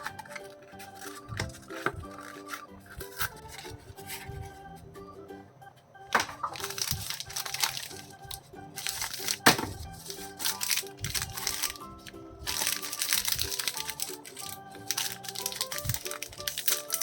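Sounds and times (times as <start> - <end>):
plastic wrapper crinkling: 0.0 - 4.6, 6.2 - 17.0
background music: 0.0 - 17.0.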